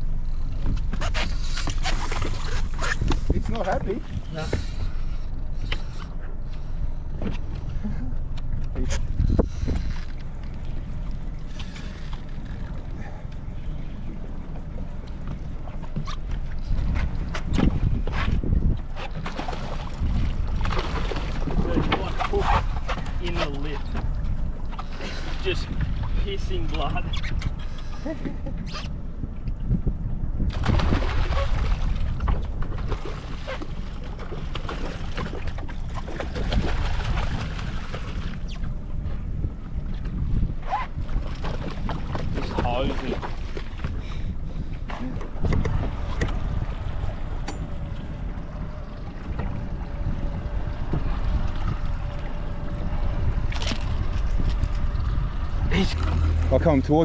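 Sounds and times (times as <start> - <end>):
low rumble of wind and water: 0.0 - 57.0.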